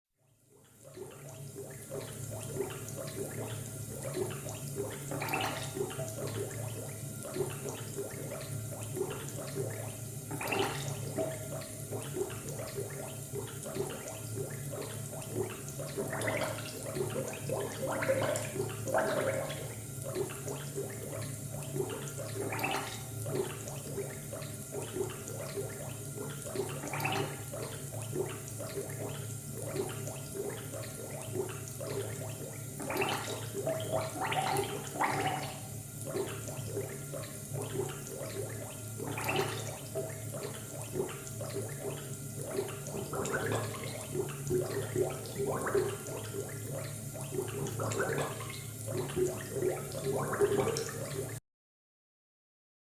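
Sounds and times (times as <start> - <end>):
bubbling gurgling liquid: 0.2 - 51.4
low equipment hum: 0.3 - 51.4.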